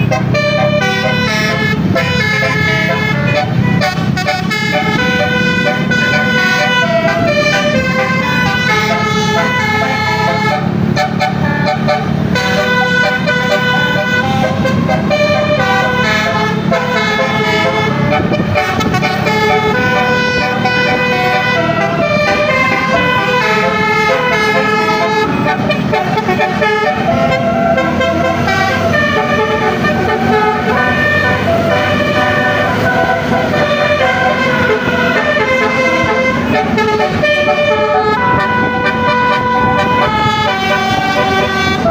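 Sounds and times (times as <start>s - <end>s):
air-horn trumpets playing melody: 0.0s - 41.9s.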